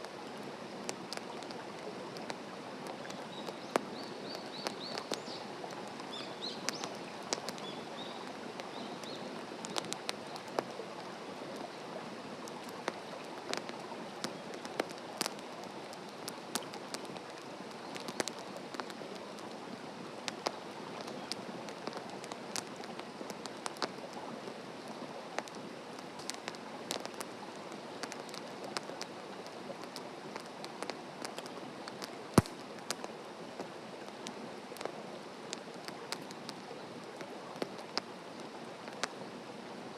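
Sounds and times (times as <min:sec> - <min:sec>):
wood fire crackling and popping: 0:00.0 - 0:11.7, 0:12.4 - 0:39.2.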